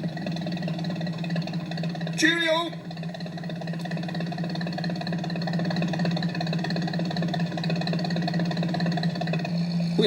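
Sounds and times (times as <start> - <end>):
van engine humming: 0.0 - 10.0.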